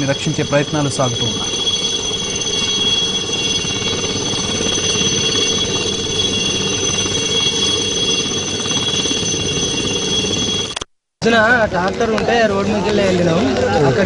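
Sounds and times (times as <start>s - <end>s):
helicopter rotor noise: 0.0s - 14.0s
high turbine whine: 0.0s - 14.0s.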